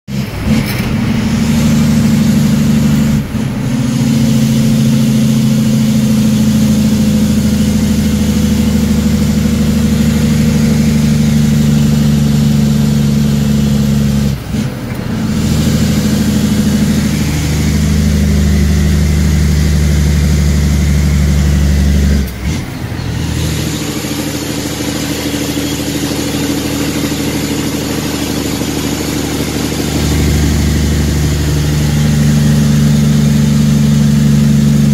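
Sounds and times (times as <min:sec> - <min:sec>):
diesel truck engine under load: 0:00.1 - 0:34.9.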